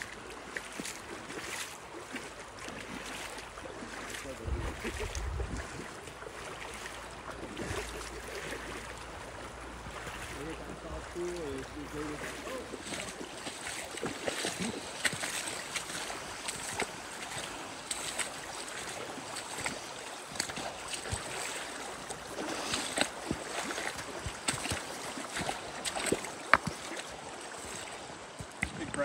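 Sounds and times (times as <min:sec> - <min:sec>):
river water rushing over gravel: 0:00.0 - 0:29.0.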